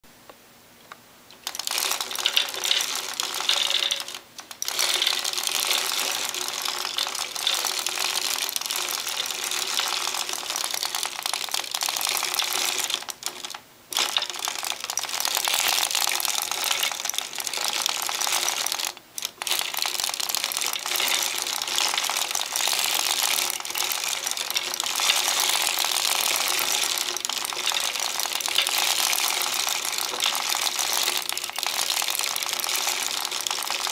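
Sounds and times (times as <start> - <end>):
knitting machine needles clattering: 1.3 - 33.9.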